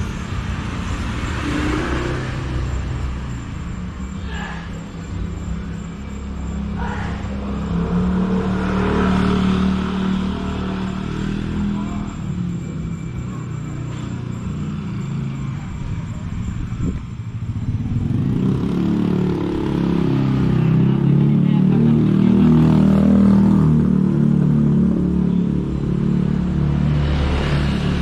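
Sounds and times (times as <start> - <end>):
passing vehicle engines: 0.0 - 28.0.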